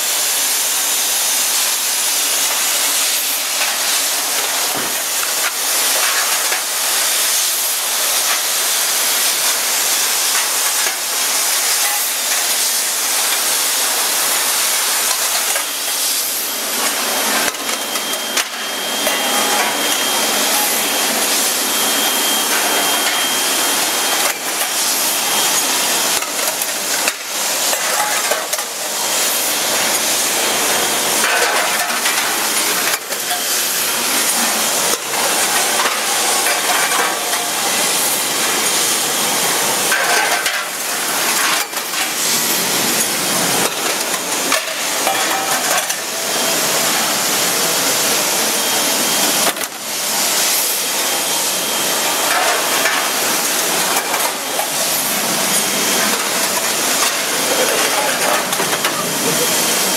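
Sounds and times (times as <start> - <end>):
spraying water hiss: 0.0 - 59.9.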